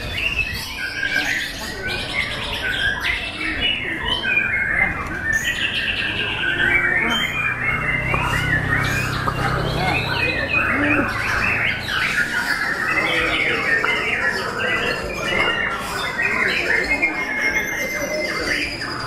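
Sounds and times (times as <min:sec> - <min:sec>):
birds singing whistles and trills: 0:00.0 - 0:19.0.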